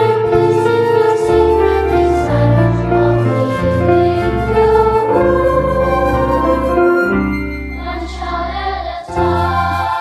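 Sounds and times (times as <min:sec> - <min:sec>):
children's choir singing: 0:00.0 - 0:07.2, 0:07.8 - 0:10.0
sustained low accompaniment: 0:00.0 - 0:09.8.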